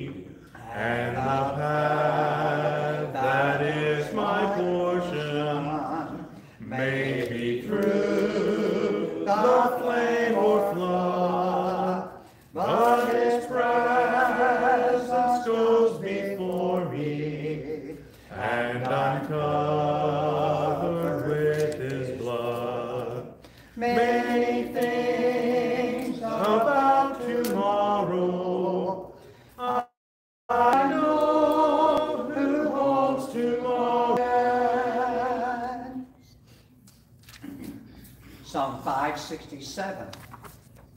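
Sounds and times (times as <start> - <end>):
congregation singing a hymn: 0.0 - 29.9, 30.5 - 36.3.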